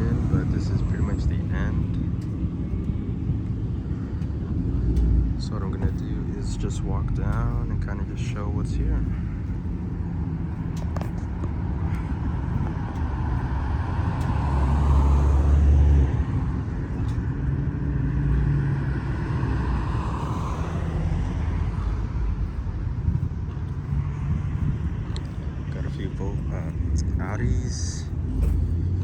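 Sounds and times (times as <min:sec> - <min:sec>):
car engines running: 0:00.0 - 0:29.0.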